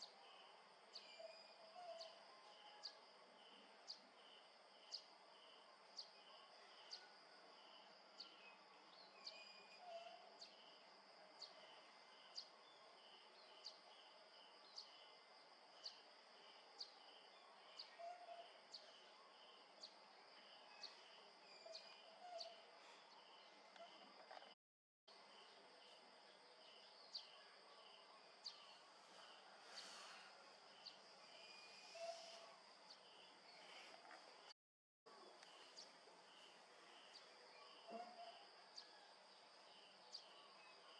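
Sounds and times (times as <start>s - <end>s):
crickets droning: 0.0s - 34.5s, 35.1s - 40.9s.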